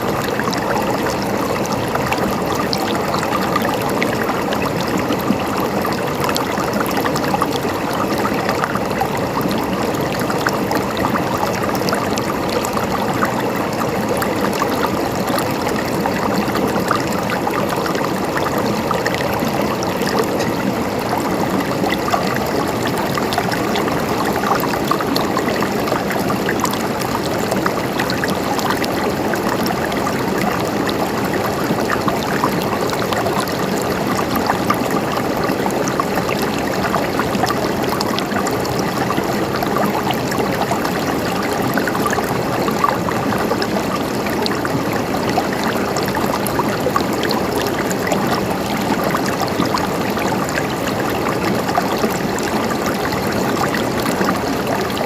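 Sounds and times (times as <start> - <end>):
river babbling over rocks: 0.0 - 55.0.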